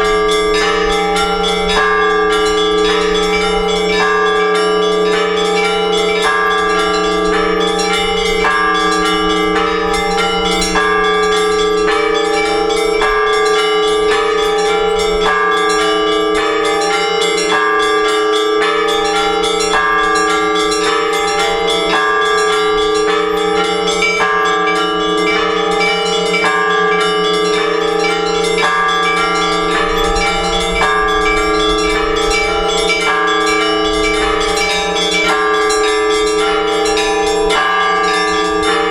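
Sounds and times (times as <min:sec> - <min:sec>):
deep church bells humming: 0:00.0 - 0:38.9
small bells striking quick pattern: 0:00.0 - 0:38.9.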